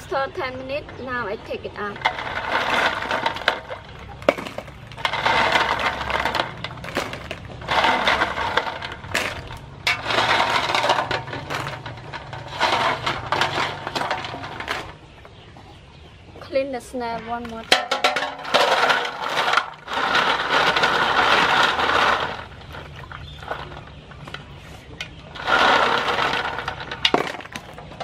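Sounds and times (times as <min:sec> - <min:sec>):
snail shells clattering: 0:00.5 - 0:15.4, 0:17.4 - 0:28.0.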